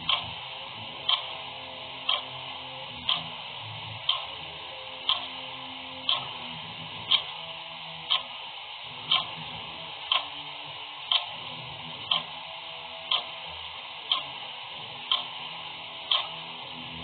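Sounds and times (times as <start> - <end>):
clock ticking: 0.0 - 8.4, 9.0 - 17.0.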